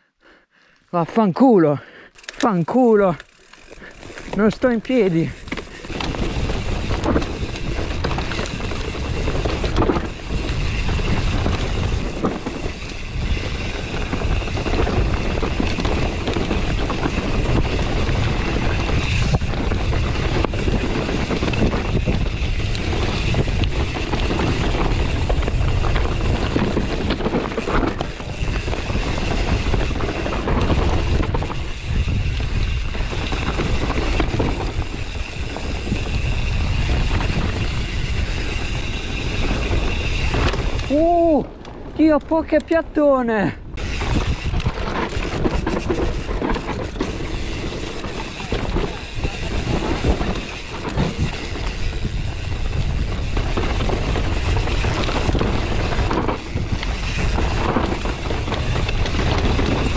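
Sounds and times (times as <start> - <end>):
bike knocking and rattling: 2.2 - 42.8, 43.7 - 59.9
wind on microphone: 5.2 - 42.1, 43.6 - 59.9.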